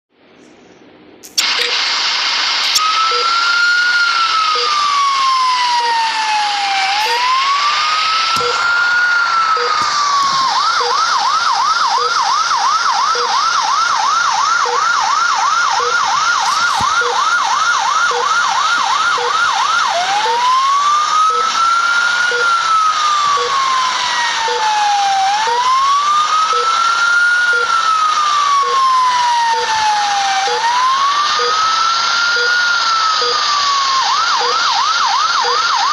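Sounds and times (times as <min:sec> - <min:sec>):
ambulance siren wailing and yelping: 0:02.8 - 0:35.9.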